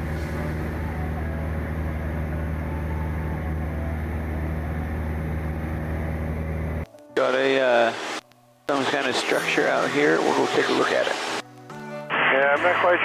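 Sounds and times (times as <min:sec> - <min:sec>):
airplane engine and propeller drone: 0:00.0 - 0:11.4.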